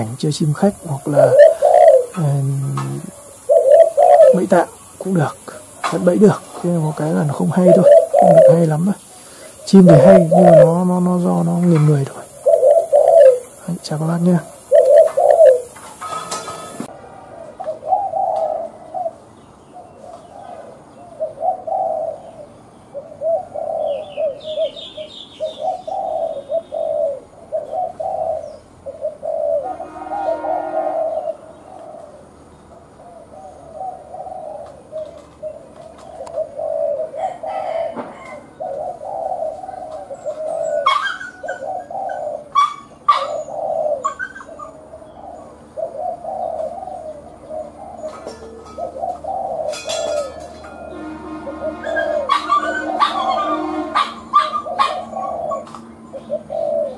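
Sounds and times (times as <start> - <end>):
small birds chirping: 0.0 - 29.6, 31.0 - 56.9
dove cooing: 0.0 - 56.9.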